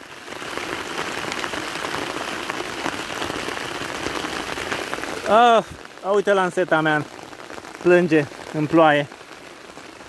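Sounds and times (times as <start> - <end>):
heavy rain on water and boat: 0.0 - 10.0.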